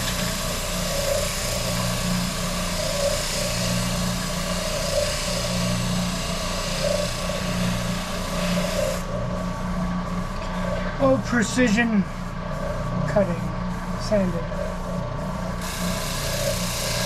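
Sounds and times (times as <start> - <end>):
woodworking machine motor hum: 0.0 - 17.0.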